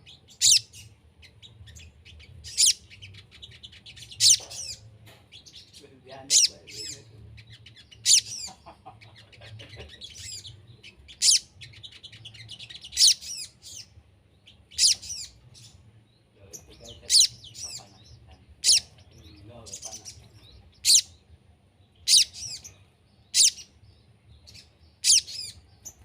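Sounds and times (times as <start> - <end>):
twittering bird chirps: 0.0 - 26.0.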